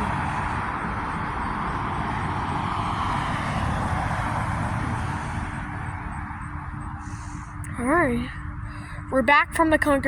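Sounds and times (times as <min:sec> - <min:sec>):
airplane flying over: 0:00.0 - 0:09.8.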